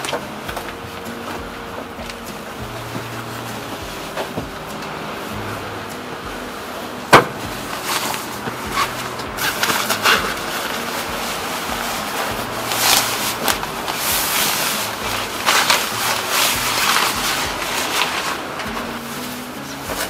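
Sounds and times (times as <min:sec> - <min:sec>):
rustling and handling noises: 0:00.0 - 0:20.0.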